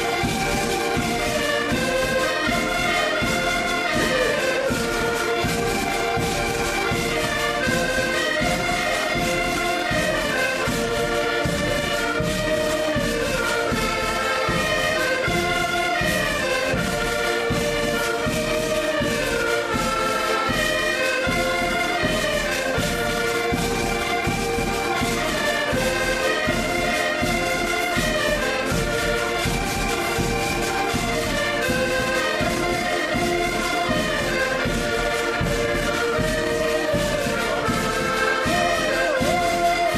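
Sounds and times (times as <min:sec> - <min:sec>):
button accordions playing folk tune: 0:00.0 - 0:39.9.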